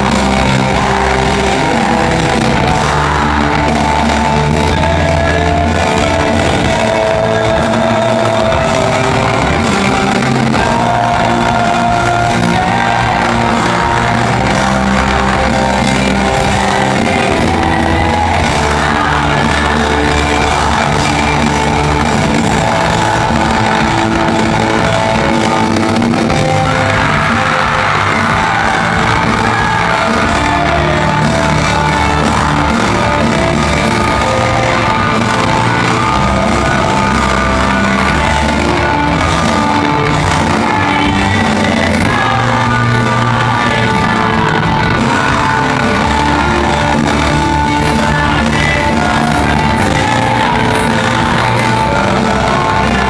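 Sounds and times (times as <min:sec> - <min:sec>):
live rock band playing: 0:00.0 - 0:53.0
person singing: 0:00.0 - 0:53.0.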